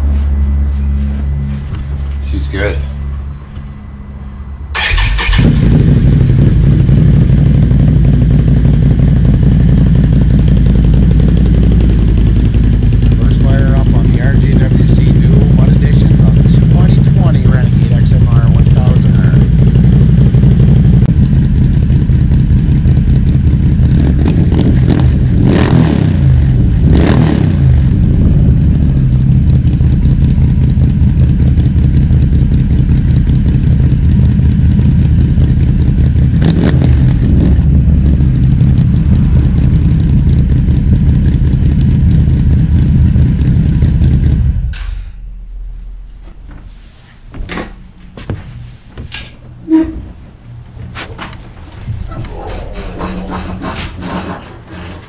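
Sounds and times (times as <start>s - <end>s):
loud engine idling: 0.0s - 44.9s
engine throttle blips: 0.0s - 54.8s.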